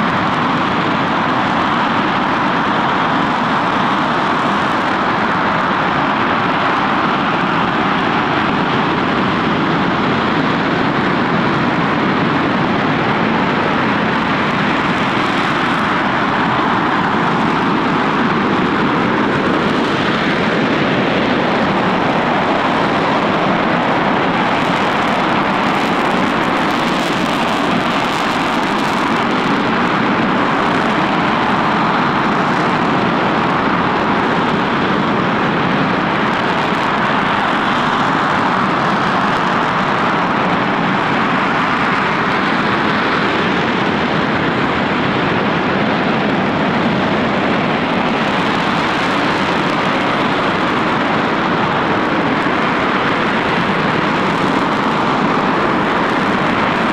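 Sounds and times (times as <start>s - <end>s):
rocket engine firing: 2.5s - 56.9s.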